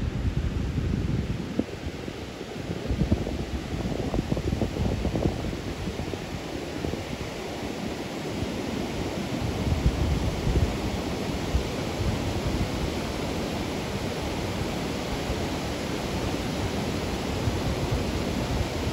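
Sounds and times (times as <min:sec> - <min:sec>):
wind buffeting microphone: 0:00.0 - 0:18.9
river water rushing over dam: 0:01.7 - 0:18.9.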